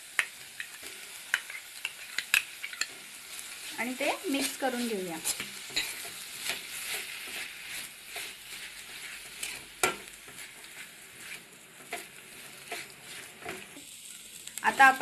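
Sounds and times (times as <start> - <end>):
faint sizzle: 0.0 - 15.0
metal spoon scraping a pan: 0.6 - 13.8.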